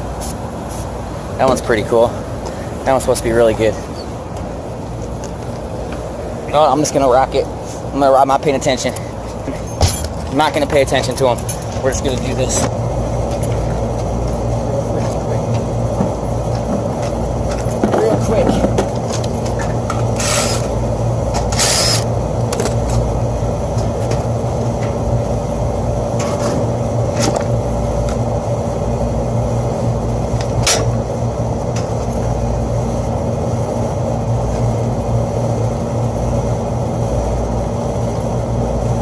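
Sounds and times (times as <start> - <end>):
low machinery hum: 0.0 - 39.0.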